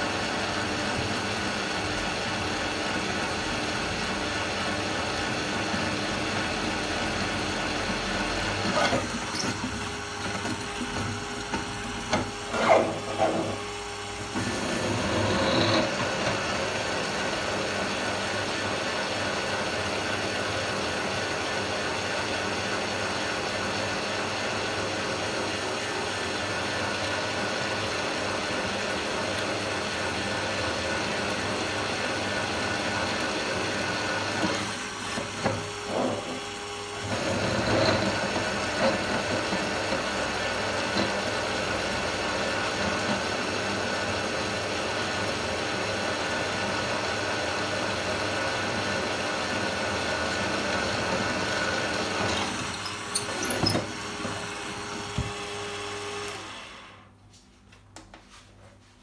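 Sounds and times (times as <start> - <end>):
drill press motor running: 0.0 - 57.1.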